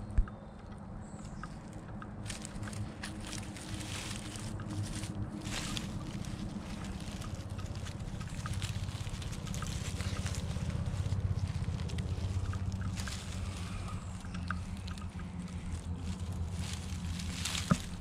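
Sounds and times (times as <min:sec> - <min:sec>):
wind rumble on microphone: 0:00.0 - 0:18.0
dry leaves crackling: 0:02.2 - 0:18.0.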